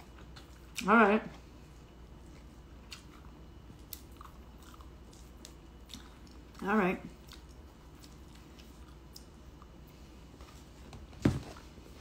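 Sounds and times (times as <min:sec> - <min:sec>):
person chewing food: 0:00.0 - 0:10.4.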